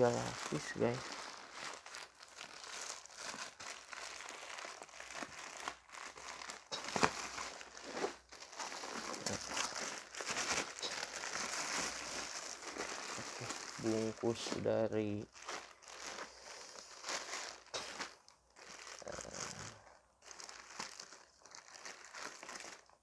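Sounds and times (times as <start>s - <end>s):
plastic mailer crinkling: 0.0s - 22.9s.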